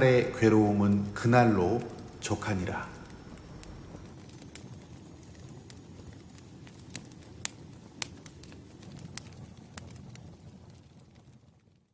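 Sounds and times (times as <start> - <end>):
campfire rumble: 0.0 - 11.9
fire crackling and popping: 0.0 - 11.9.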